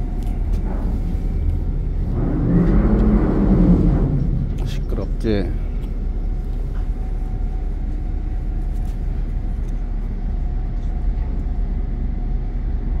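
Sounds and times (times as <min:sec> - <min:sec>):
boat machinery rumbling: 0:00.0 - 0:13.0.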